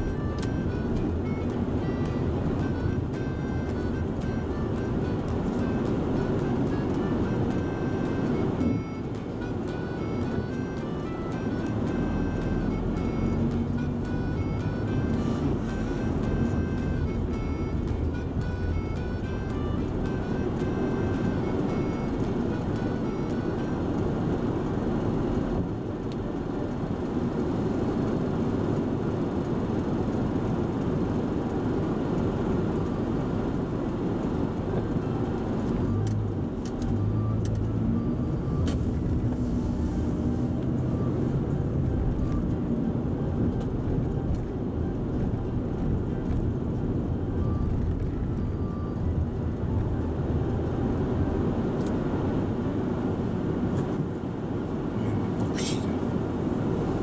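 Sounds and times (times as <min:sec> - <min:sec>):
car rumbling: 0:00.0 - 0:57.0.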